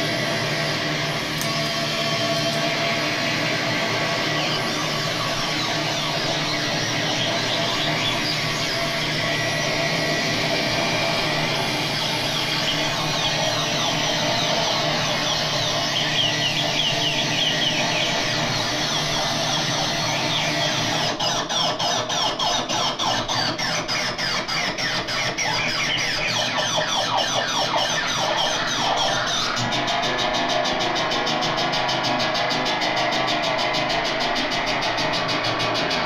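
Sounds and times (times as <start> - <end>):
high electronic tone with falling sweeps: 0.0 - 21.0, 25.5 - 36.0.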